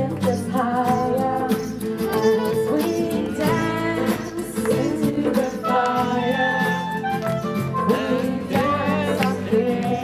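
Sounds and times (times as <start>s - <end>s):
guitar: 0.0s - 10.0s
person singing: 0.0s - 10.0s.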